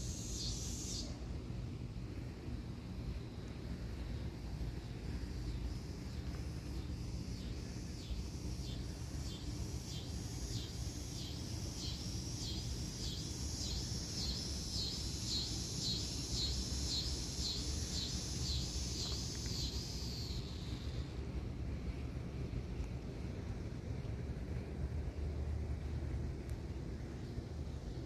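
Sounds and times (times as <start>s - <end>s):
low rumble of wind or traffic: 0.0s - 28.0s.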